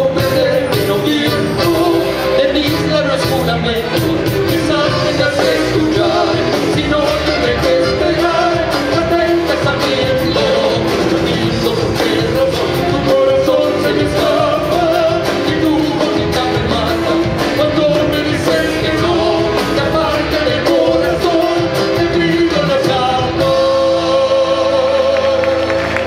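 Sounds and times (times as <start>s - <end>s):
live band playing: 0.0s - 26.0s
man singing: 0.0s - 26.0s.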